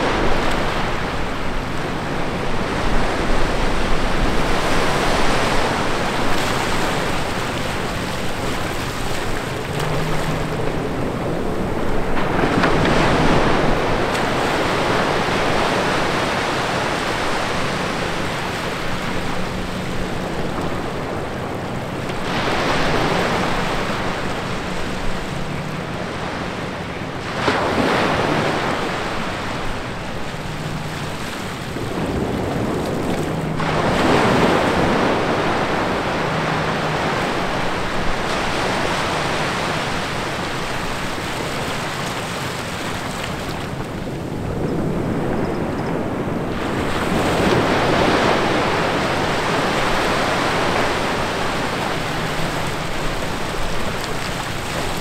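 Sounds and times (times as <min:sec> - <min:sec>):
small waves washing on sand: 0:00.0 - 0:55.0.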